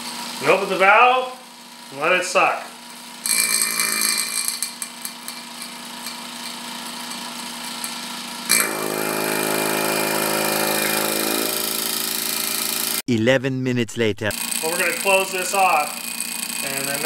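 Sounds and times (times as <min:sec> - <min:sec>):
vacuum pump humming: 0:00.0 - 0:13.0, 0:14.3 - 0:17.0.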